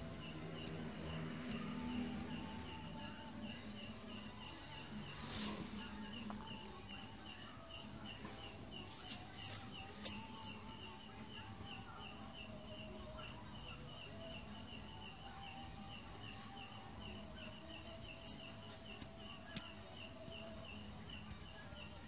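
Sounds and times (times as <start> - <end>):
faint outdoor background noise: 0.0 - 22.0.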